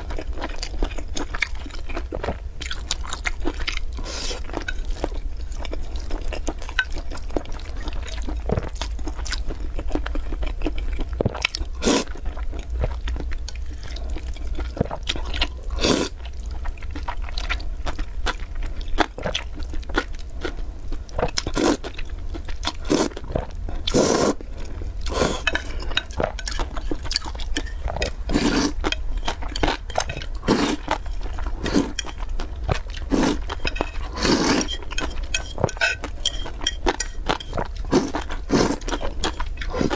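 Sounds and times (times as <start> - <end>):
slurping and chewing noodles: 0.0 - 39.9
steady low hum: 0.0 - 39.9.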